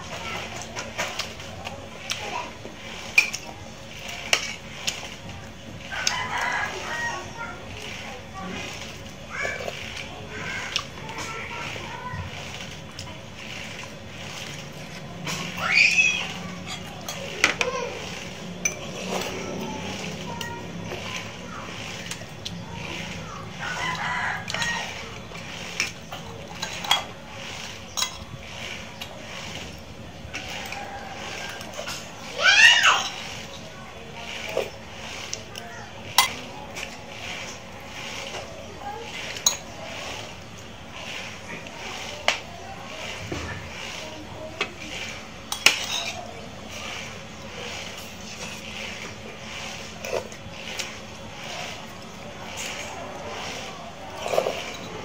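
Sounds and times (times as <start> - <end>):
chewing and slurping: 0.0 - 55.0.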